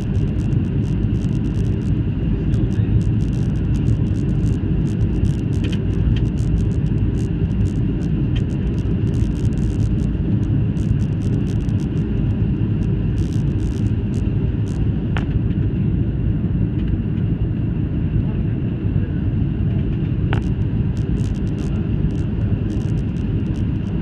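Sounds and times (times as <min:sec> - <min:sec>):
faint ticks and rattles: 0:00.0 - 0:15.6, 0:19.7 - 0:24.0
airliner cabin rumble: 0:00.0 - 0:24.0
faint steady whine: 0:00.0 - 0:24.0.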